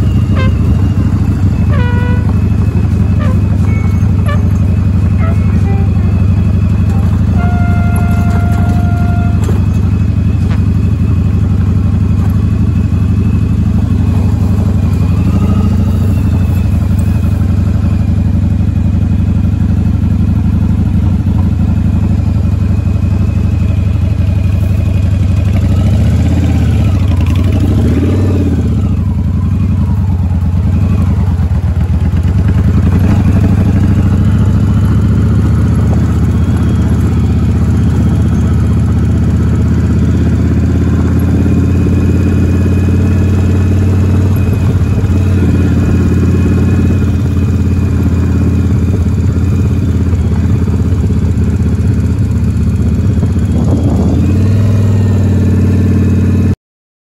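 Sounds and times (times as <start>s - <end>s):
motorcycle engine running: 0.0s - 56.6s.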